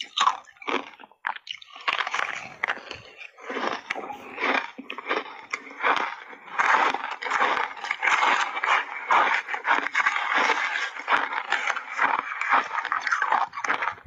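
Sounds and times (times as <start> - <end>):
crunching and chewing ice: 0.0 - 14.0.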